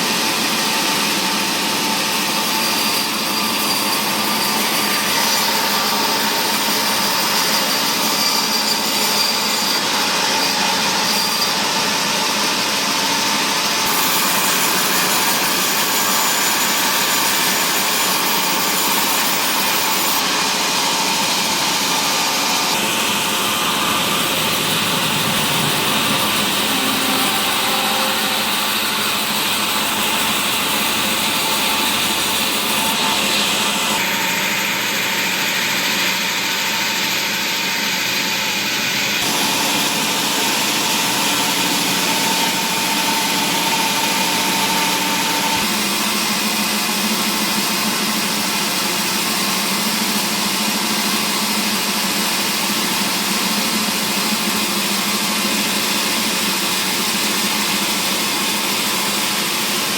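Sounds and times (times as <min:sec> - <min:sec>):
saw cutting timber: 0:00.0 - 0:59.9
sawmill machinery running: 0:00.0 - 0:59.9.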